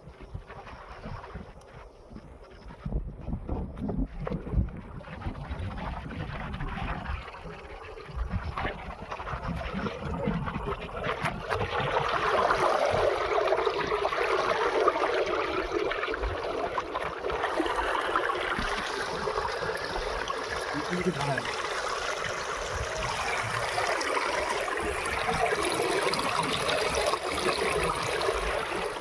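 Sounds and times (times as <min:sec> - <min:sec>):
water trickling and splashing: 0:00.0 - 0:29.0
wind rumbling on microphone: 0:00.0 - 0:29.0.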